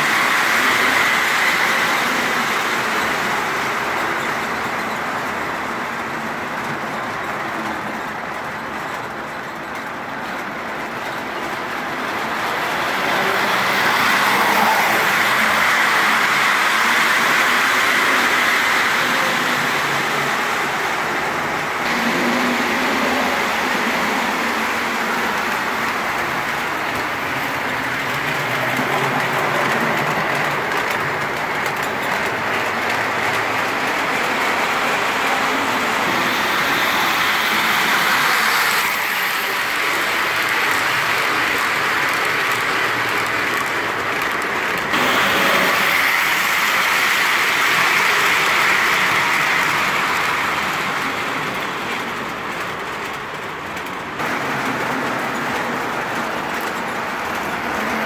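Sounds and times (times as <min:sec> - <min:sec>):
model train rolling rumble: 0:00.0 - 0:58.0.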